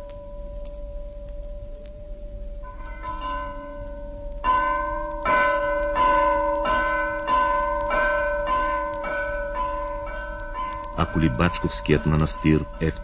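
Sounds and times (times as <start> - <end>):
church bell ringing: 0.0 - 13.0.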